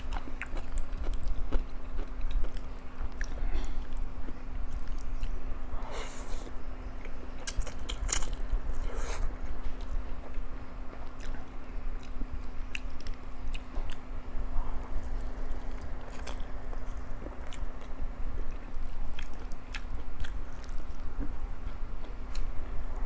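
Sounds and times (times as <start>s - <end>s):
chewing noodles: 0.0s - 22.9s.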